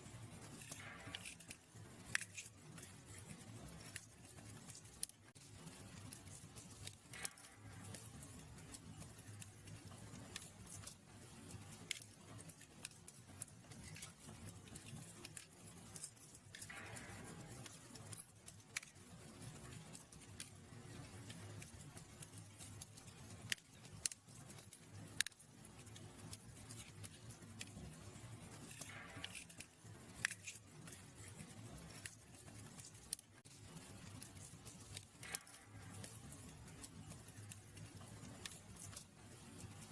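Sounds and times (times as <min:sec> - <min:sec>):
low rumble of flames: 0:00.0 - 0:39.9
soft hiss: 0:00.0 - 0:39.9
wood fire crackling and popping: 0:00.0 - 0:39.9.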